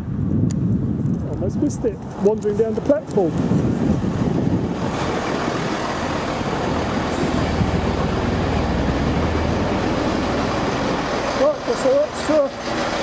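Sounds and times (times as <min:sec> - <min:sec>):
train wheels rumbling on rail: 0:01.2 - 0:13.0
diesel engine hum: 0:01.9 - 0:13.0.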